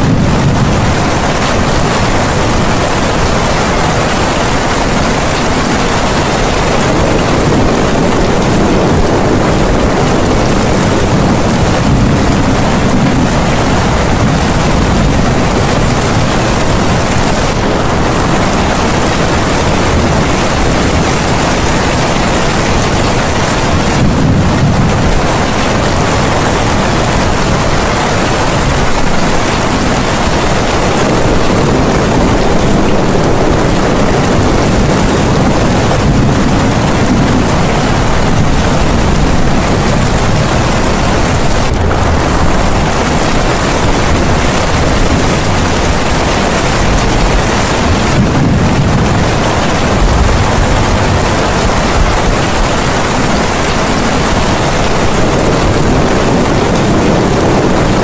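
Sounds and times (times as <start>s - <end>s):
steady loud rushing noise: 0.0s - 58.0s.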